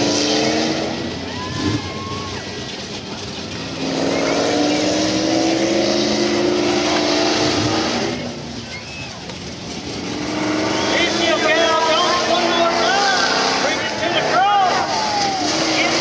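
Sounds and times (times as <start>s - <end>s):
truck engine under heavy load: 0.0s - 16.0s.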